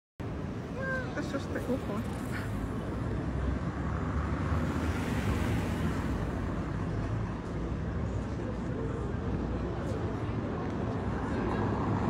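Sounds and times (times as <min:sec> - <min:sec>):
road traffic hum: 0:00.2 - 0:12.0.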